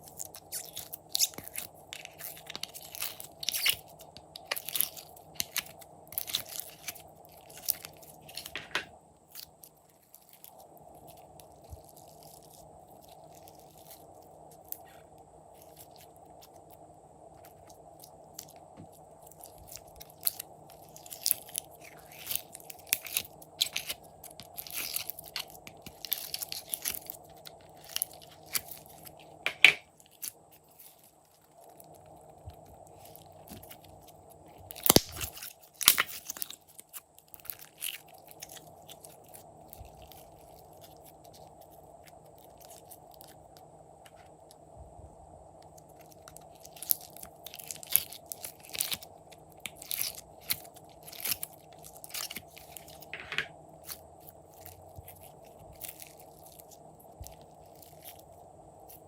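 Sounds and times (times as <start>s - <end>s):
slime crunching and crackling: 0.0s - 44.6s, 45.6s - 59.0s
faint hum: 0.0s - 59.0s.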